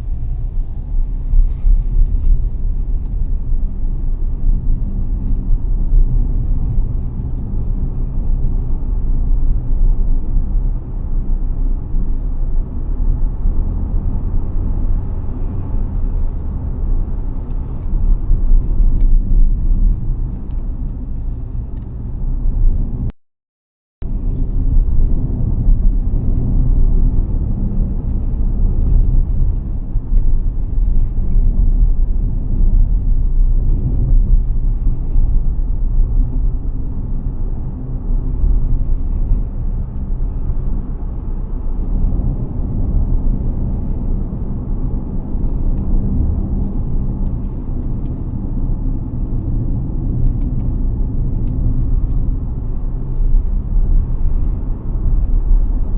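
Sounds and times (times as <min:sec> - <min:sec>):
car drivetrain and road noise: 0:00.0 - 0:23.1, 0:24.0 - 0:55.9.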